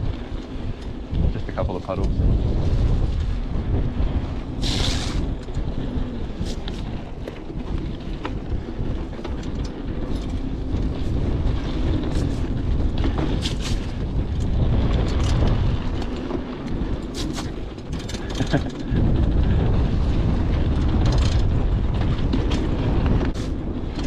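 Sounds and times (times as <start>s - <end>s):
bicycle tyres rumbling on dirt: 0.0s - 24.0s
bike clicks and knocks: 0.0s - 24.0s
wind buffeting microphone: 0.0s - 24.0s.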